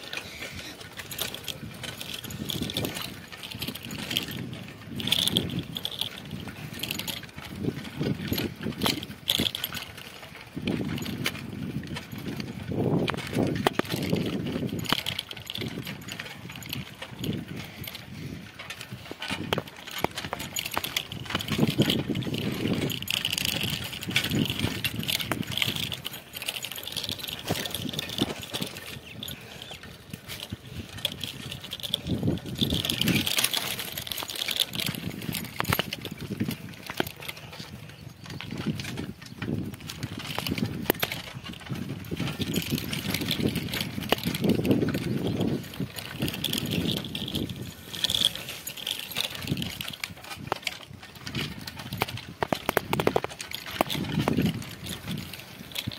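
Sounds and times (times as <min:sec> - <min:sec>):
bike rattling: 0:00.0 - 0:55.9
bike tyres rolling on dirt: 0:00.0 - 0:55.9
wind rumbling on microphone: 0:00.0 - 0:55.9.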